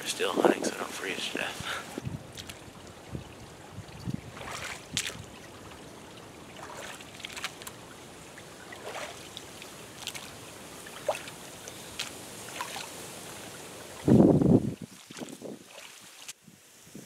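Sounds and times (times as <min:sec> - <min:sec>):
boots sloshing through water: 0:01.8 - 0:14.1, 0:14.8 - 0:16.4.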